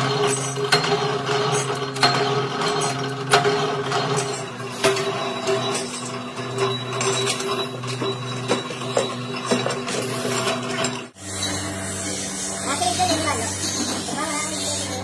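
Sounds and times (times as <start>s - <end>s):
different steady hum: 0.0s - 15.0s
machinery humming: 0.0s - 15.0s.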